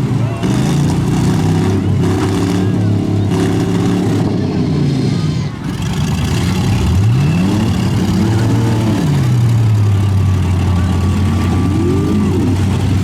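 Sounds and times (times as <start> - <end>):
pickup truck engines revving: 0.0 - 13.0.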